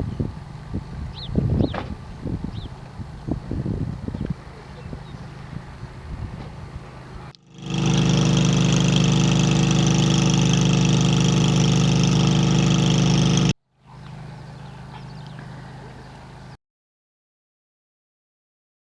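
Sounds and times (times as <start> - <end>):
engine running with high whine: 0.0 - 16.6.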